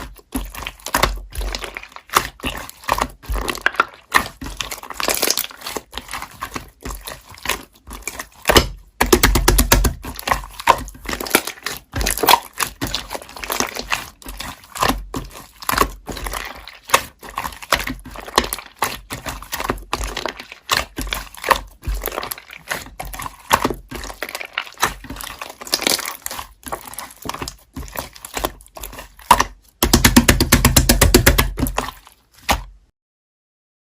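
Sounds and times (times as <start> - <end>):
slime squished by hand: 0.0 - 32.9.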